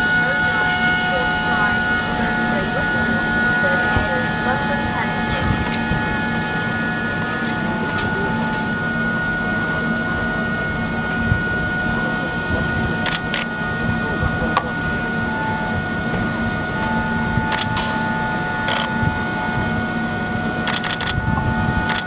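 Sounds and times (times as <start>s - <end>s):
diesel train engines idling: 0.0s - 22.0s
high whine: 0.0s - 22.0s
murmur of voices: 0.0s - 22.0s.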